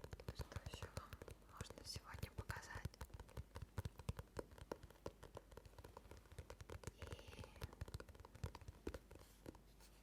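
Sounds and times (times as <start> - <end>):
hands tapping and clicking: 0.0 - 10.0.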